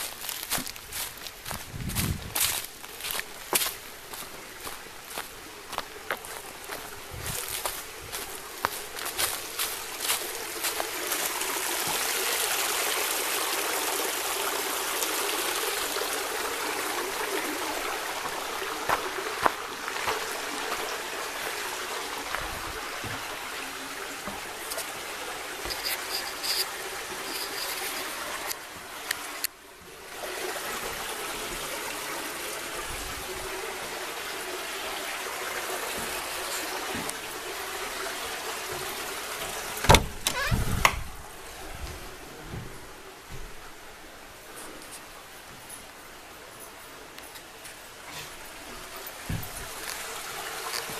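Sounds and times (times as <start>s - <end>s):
creek trickling over rocks: 0.0s - 40.3s, 41.1s - 50.9s.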